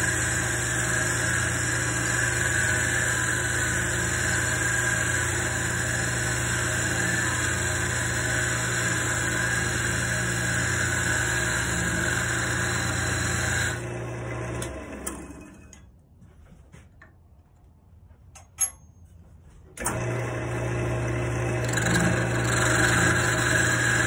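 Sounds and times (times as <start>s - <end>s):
wood lathe motor running: 0.0s - 15.4s, 19.8s - 24.0s.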